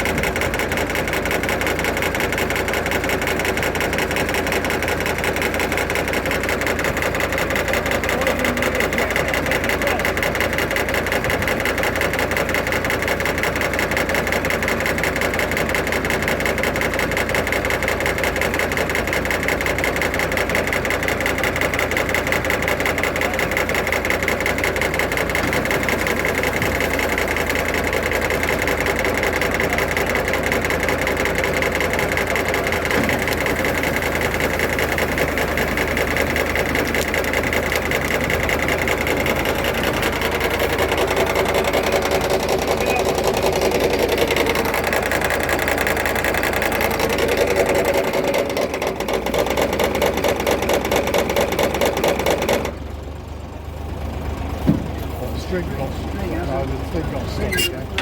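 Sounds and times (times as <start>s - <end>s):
baler machinery rhythm: 0.0s - 58.0s
engine running: 0.0s - 58.0s.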